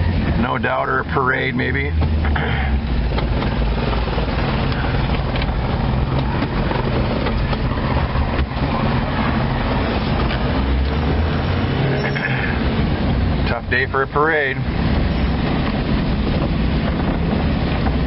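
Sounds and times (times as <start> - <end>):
car engine and tyres on wet road: 0.0 - 18.0.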